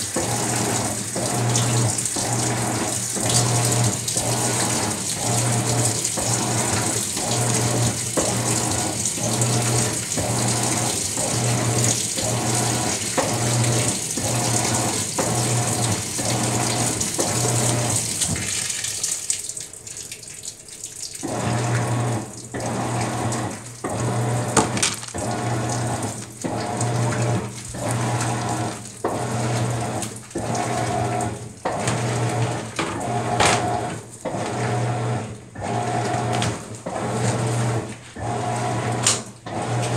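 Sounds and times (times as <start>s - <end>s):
washer motor humming back and forth: 0.0s - 39.9s
water churning and sloshing: 0.0s - 39.9s.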